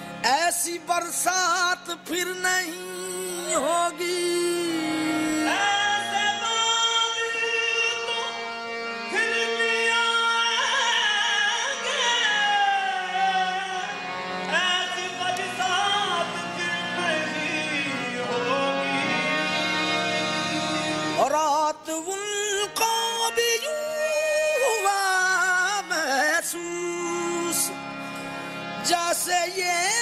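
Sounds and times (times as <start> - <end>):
man singing melodic runs: 0.0 - 30.0.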